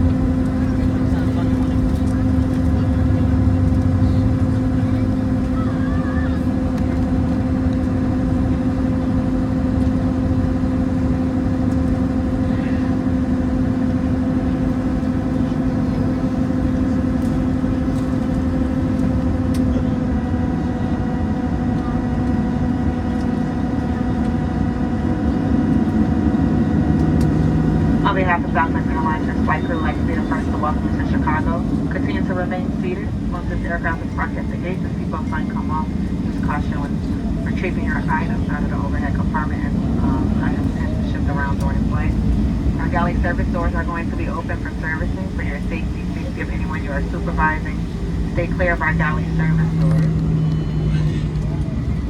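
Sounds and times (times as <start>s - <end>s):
jet engines humming in cabin: 0.0s - 52.0s.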